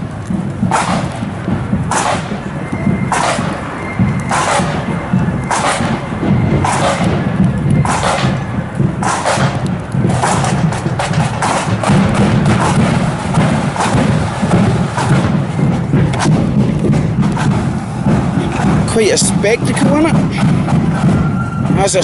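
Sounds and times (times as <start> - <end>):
bass drum: 0.0 - 22.0
marching drums: 0.0 - 22.0
sharp drum strikes: 0.0 - 22.0.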